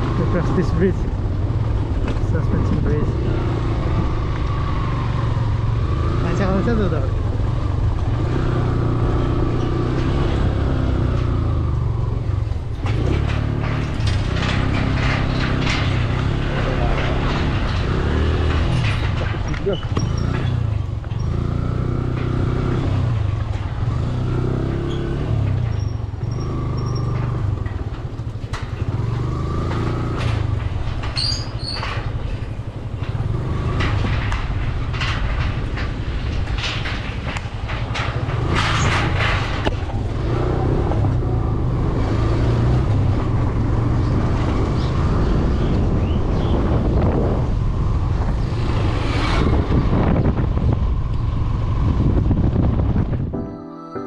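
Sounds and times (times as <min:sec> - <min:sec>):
rattles and knocks: 0:00.0 - 0:53.4
motor vehicle rumbling: 0:00.0 - 0:54.0.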